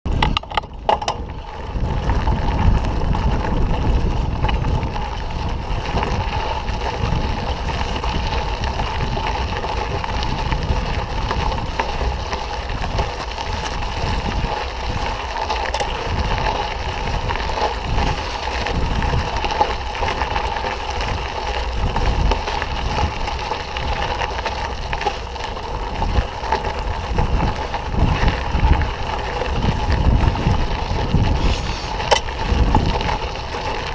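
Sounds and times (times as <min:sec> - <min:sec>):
bike tyres rumbling: 0:00.1 - 0:33.9
wind on microphone: 0:00.1 - 0:33.9.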